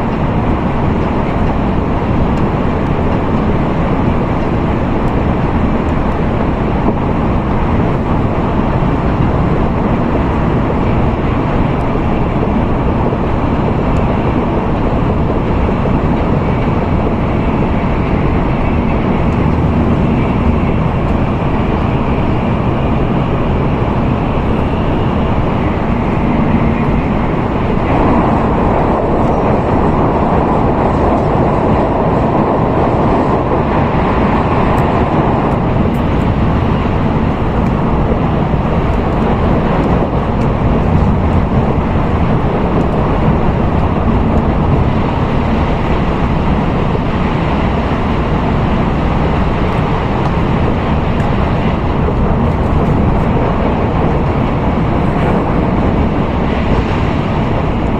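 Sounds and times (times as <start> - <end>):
train rumble inside passenger car: 0.0 - 57.9.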